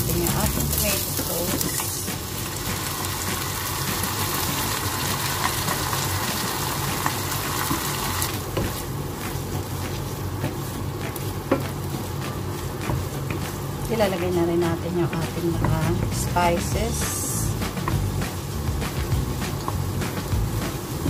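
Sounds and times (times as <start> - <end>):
sauce sizzling in a frying pan: 0.0 - 21.0.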